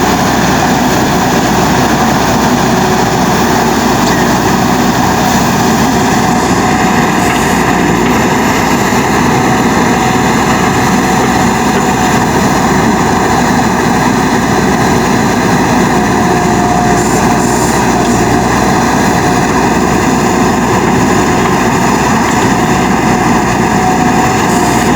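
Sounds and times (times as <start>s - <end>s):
motor running steadily: 0.0s - 24.9s.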